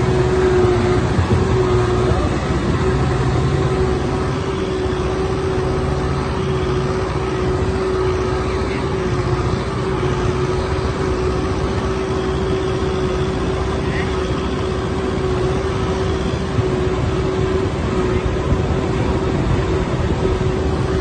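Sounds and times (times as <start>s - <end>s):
diesel engine rumbling: 0.0s - 21.0s
steady hum: 0.0s - 21.0s.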